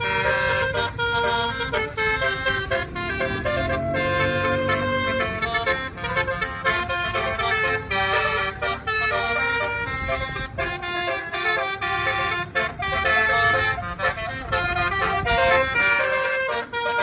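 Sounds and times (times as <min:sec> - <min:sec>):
low engine rumble: 0:00.0 - 0:17.0
multi-note air horn tune: 0:00.0 - 0:17.0.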